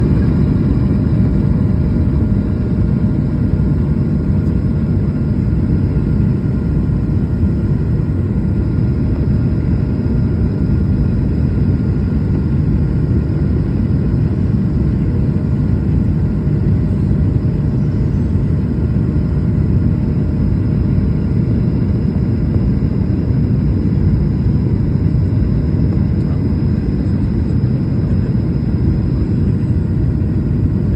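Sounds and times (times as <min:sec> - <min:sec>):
aircraft rumble in flight: 0:00.0 - 0:30.9.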